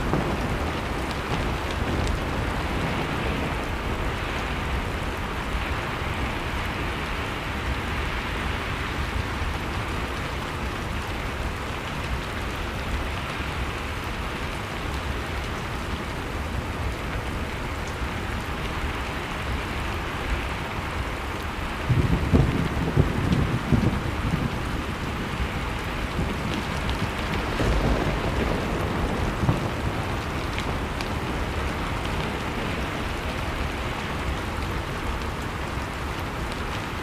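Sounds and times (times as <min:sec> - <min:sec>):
blizzard wind rushing: 0:00.0 - 0:37.0.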